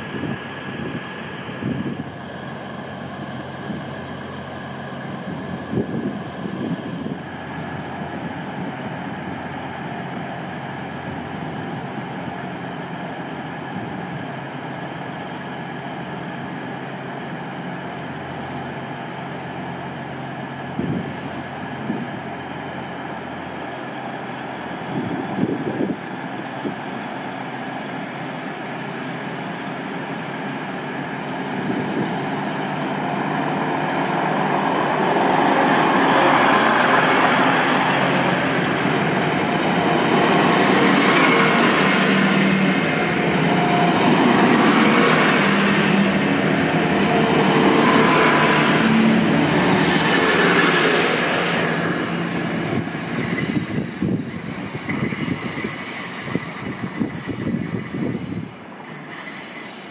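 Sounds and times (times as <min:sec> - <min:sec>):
diesel train engines: 0:00.0 - 0:59.9
train wheel noise: 0:00.0 - 0:59.9.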